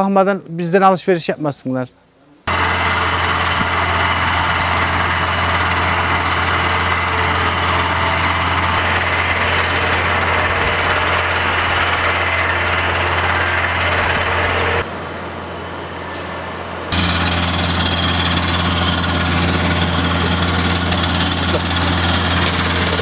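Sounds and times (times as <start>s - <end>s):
machine drone with low hum: 2.5s - 23.0s.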